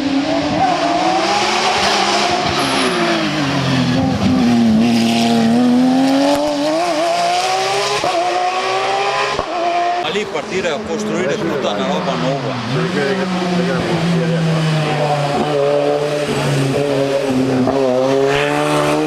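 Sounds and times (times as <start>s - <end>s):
race car engine under load: 0.2s - 19.0s.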